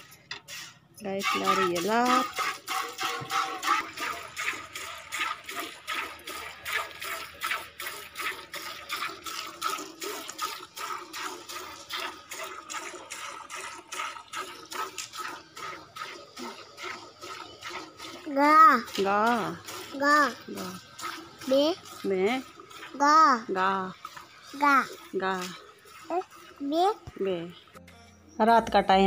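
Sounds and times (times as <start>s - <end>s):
milk squirting into steel bucket: 0.0s - 27.8s.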